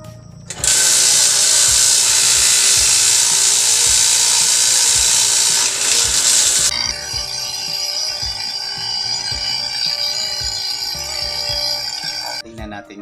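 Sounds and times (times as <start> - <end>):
leaf shredder grinding: 0.5 - 12.4
motor whine: 0.5 - 12.4.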